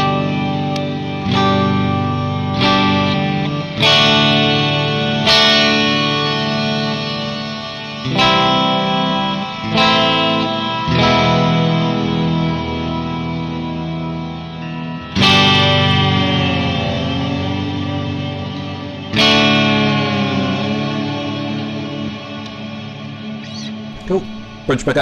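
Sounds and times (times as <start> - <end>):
electric guitar chords ringing: 0.0 - 25.0.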